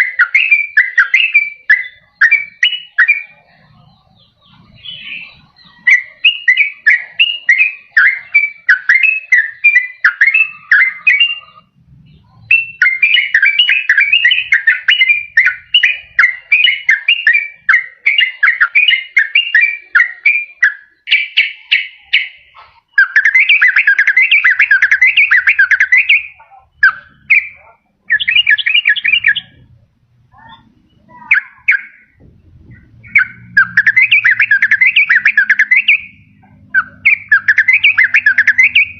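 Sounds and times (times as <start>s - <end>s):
bird bubbling chattering song: 0.0s - 29.8s, 30.4s - 38.9s.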